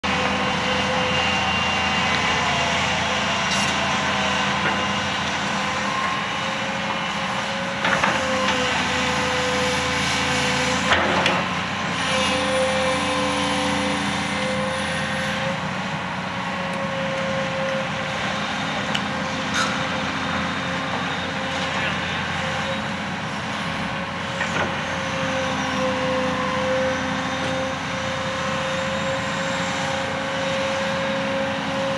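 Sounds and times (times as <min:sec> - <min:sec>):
heavy diesel machinery whining: 0:00.0 - 0:31.9.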